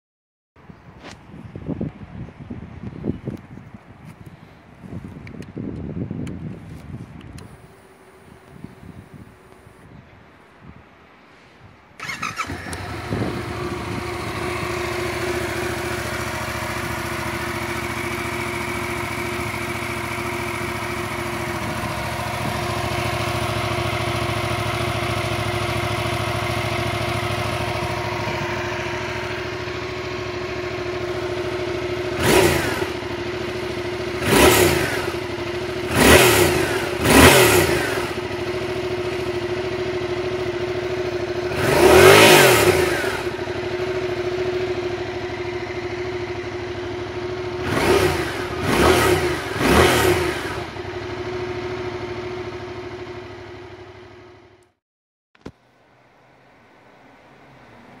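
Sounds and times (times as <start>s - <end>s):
motorcycle engine idling and revving: 2.9s - 10.8s, 12.0s - 54.8s, 55.4s - 58.0s.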